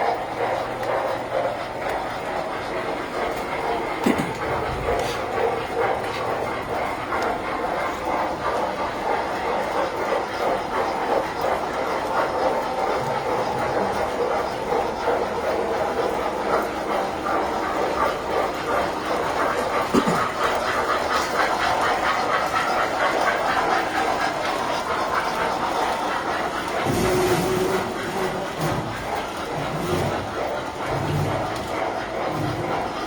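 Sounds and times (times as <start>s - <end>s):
model train motors whirring: 0.0s - 33.0s
wheels clicking over track: 0.0s - 33.0s.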